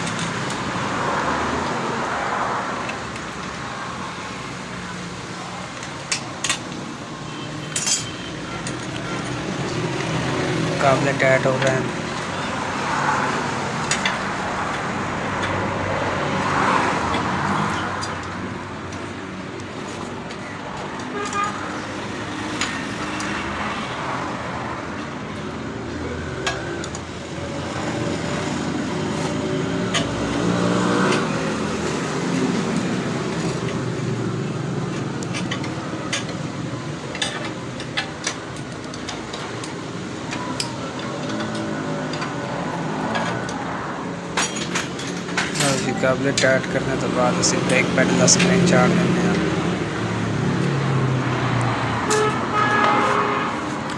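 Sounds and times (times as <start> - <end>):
road traffic passing: 0.0 - 53.9
vehicle engine: 0.0 - 53.9.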